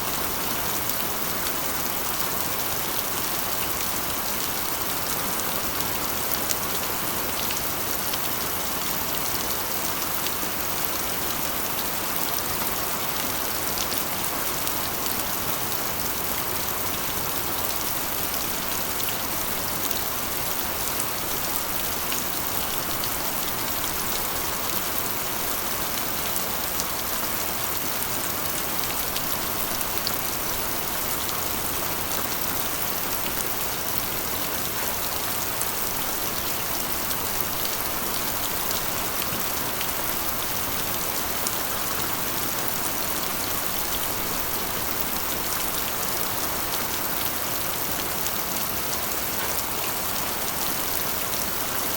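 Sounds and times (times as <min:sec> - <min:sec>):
rain hissing on metal roof: 0:00.0 - 0:51.9.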